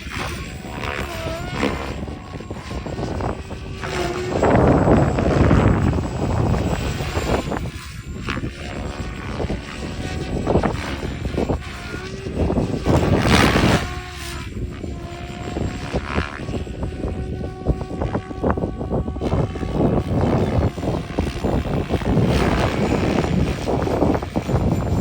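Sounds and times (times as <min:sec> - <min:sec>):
rc helicopter rotor whining: 0:00.0 - 0:25.0
wind buffeting microphone: 0:00.0 - 0:25.0.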